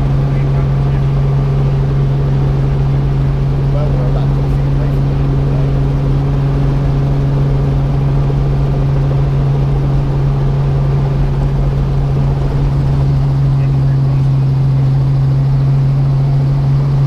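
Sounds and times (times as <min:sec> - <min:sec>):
helicopter engine and rotors humming: 0:00.0 - 0:17.0.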